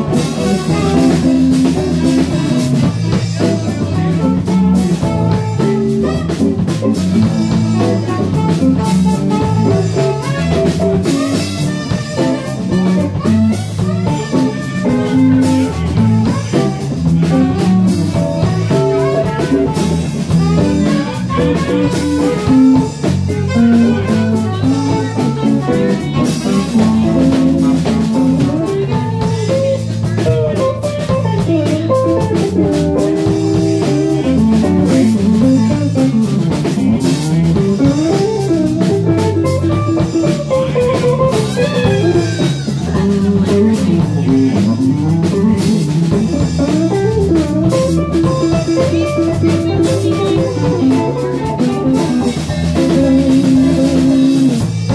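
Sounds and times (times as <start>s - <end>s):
bass guitar: 0.0s - 54.9s
drum kit playing: 0.0s - 54.9s
electric guitar: 0.0s - 54.9s.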